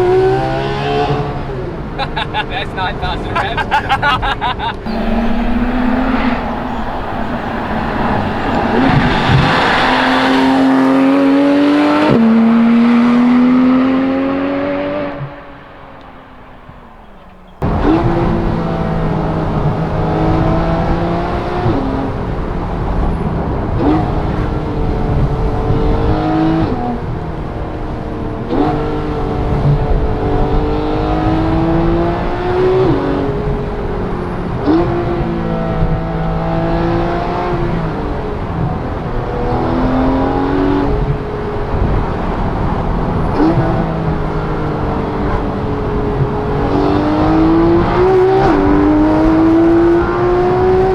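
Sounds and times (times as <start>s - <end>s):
car engine accelerating hard: 0.0s - 50.9s.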